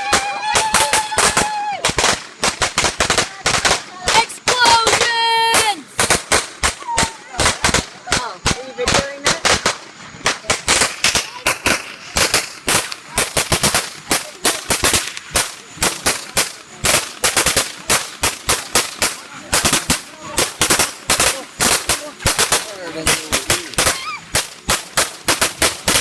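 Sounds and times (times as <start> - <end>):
fireworks banging: 0.0 - 26.0.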